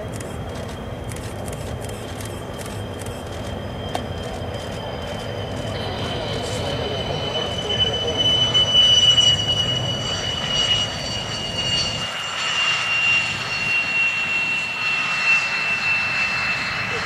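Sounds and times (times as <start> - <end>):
low engine rumble: 0.0 - 15.2
jet engine turbine whine: 0.0 - 17.0.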